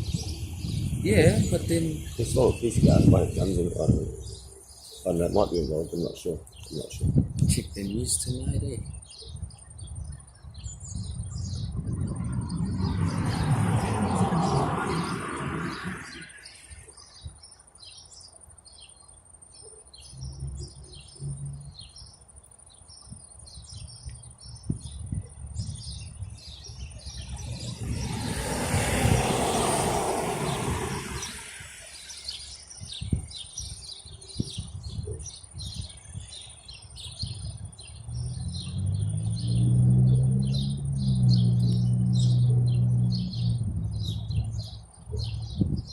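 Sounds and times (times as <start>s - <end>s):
vehicles passing by: 0.0s - 9.6s, 10.3s - 17.3s, 20.0s - 22.0s, 23.8s - 35.4s, 36.1s - 45.9s
small birds chirping: 0.0s - 45.9s.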